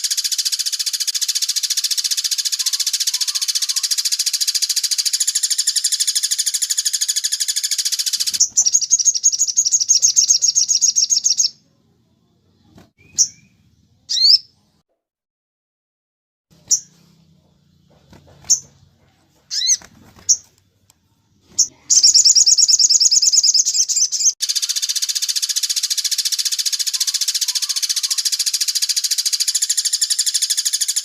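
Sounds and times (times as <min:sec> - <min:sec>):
songbird chirps and trill: 0:00.0 - 0:14.7, 0:16.5 - 0:31.0.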